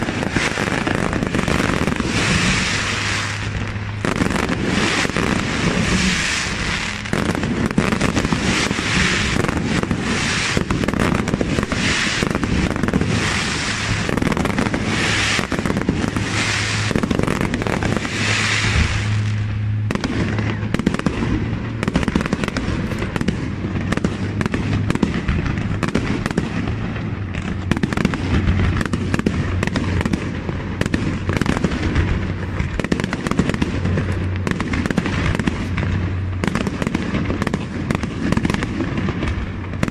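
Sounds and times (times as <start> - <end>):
fireworks bangs: 0.0 - 39.9
fireworks crackling and hissing: 0.0 - 39.9.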